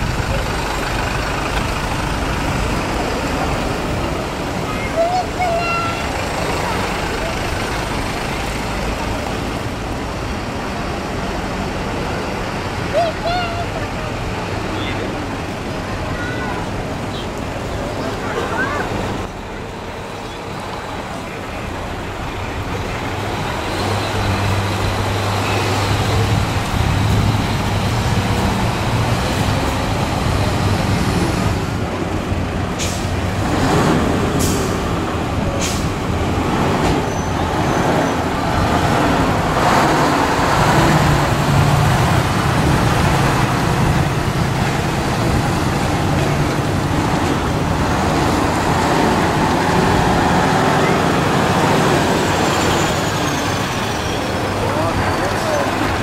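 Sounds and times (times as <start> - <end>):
trucks driving past: 0.0 - 56.0.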